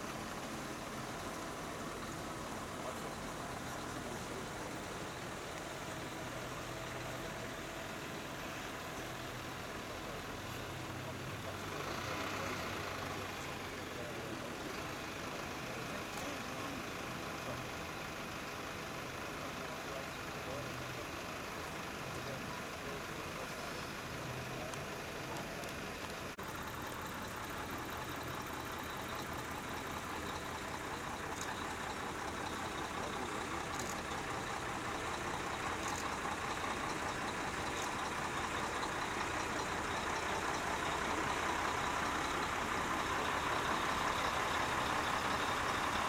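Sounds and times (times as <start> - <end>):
diesel truck engines: 0.0 - 46.0.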